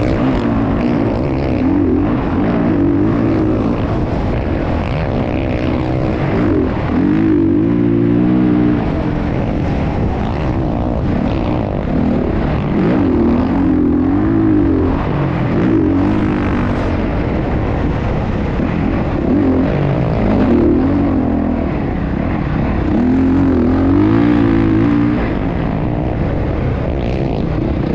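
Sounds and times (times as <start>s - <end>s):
motocross bike engine revving: 0.0s - 27.9s.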